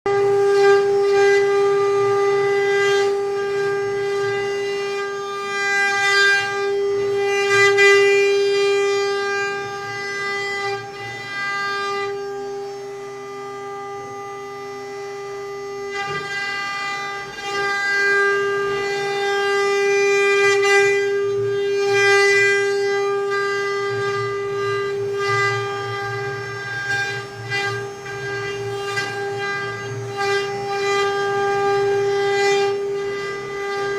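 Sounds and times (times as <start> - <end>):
router spindle whining: 0.1 - 33.9
wood cutting noise: 0.1 - 33.9.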